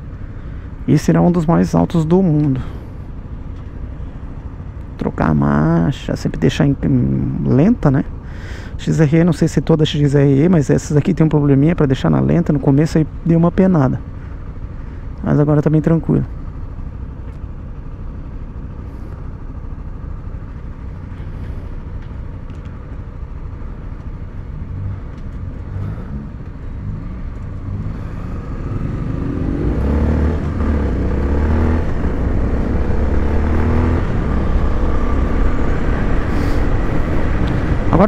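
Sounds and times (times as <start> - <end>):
motorcycle engine idling and accelerating: 0.0 - 38.0.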